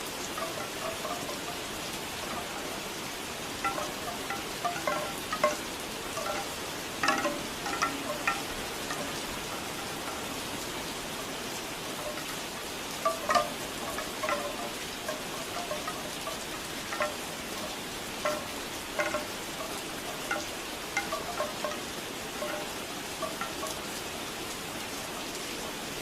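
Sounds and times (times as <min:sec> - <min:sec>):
bamboo wind chimes knocking: 0:00.0 - 0:25.2
steady rain: 0:00.0 - 0:26.0.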